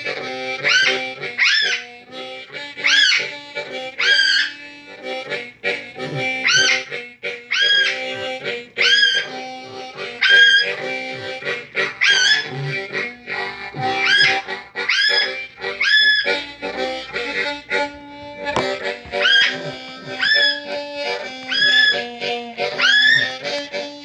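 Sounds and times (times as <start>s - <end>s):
parrot calling: 0.0s - 23.8s
harmonica playing blues chords: 0.0s - 24.0s.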